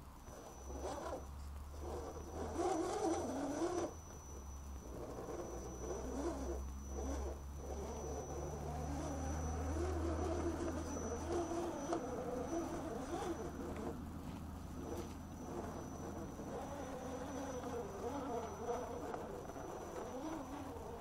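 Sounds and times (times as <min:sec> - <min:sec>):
toy car motor whirring: 0:00.0 - 0:21.0.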